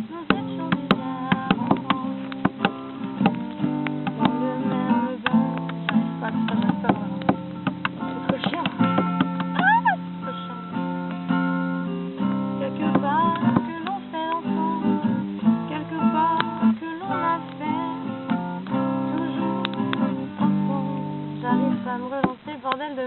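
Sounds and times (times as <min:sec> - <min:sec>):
acoustic guitar strummed and plucked: 0:00.0 - 0:23.0.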